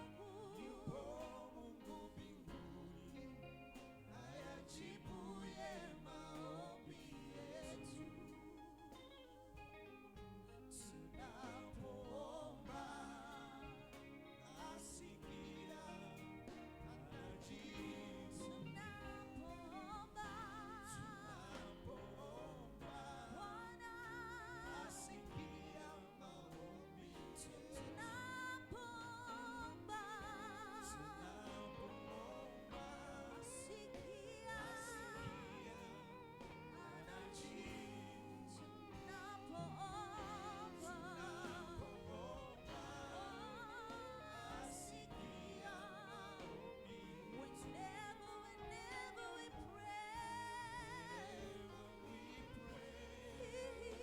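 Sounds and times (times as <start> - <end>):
instrumental backing: 0.0 - 54.0
person singing with vibrato: 10.4 - 54.0.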